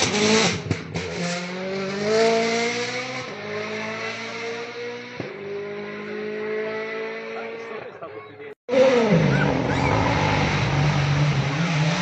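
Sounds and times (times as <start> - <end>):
rally car engine revving: 0.0 - 7.9, 8.7 - 12.0.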